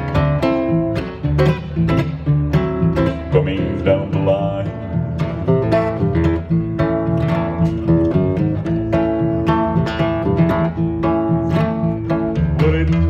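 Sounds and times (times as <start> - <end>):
acoustic bass walking line: 0.0 - 13.0
acoustic guitar plucked notes: 0.0 - 13.0.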